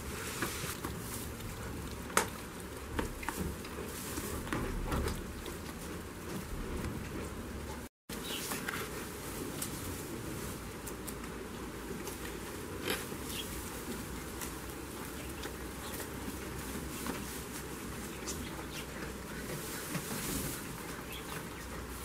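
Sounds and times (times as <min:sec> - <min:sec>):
goats rustling through hay: 0:00.0 - 0:07.4, 0:08.1 - 0:22.0.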